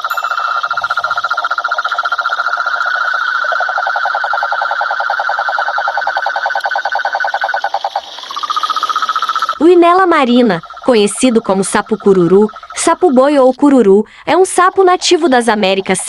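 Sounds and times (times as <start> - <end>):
toads trilling: 0.0 - 16.0.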